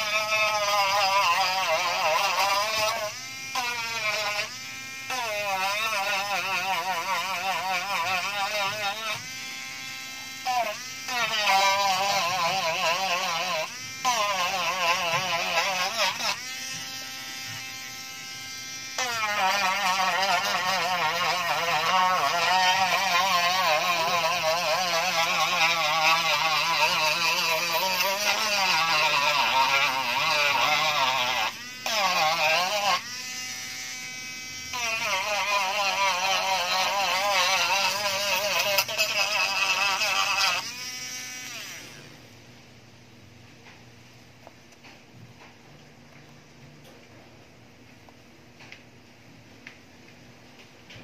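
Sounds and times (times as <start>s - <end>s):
rotary tool grinding whine: 0.0s - 42.3s.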